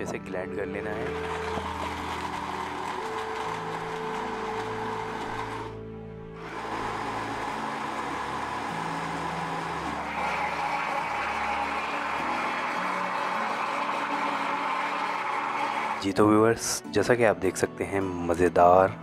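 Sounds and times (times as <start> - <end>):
background music: 0.0 - 19.0
blender running: 0.8 - 16.1.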